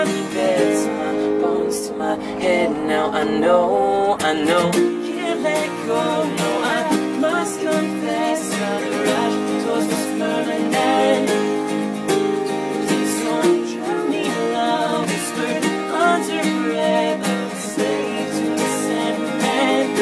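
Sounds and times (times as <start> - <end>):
person singing: 0.0 - 12.0, 12.6 - 20.0
acoustic guitar strumming: 0.0 - 20.0.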